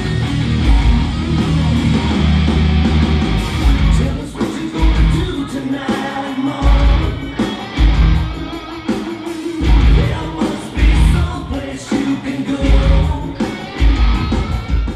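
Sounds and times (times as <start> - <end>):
rock music with heavy bass: 0.0 - 14.9.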